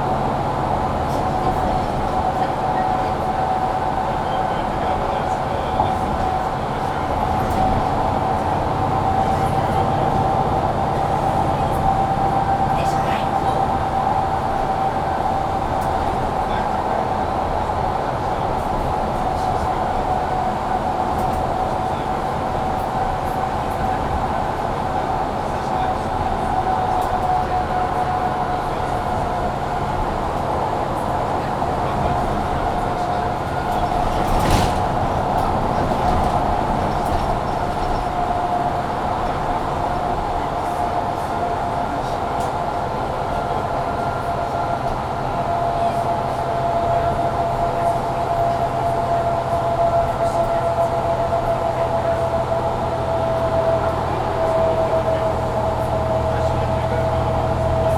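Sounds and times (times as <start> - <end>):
bus engine and drivetrain whine: 0.0 - 57.9.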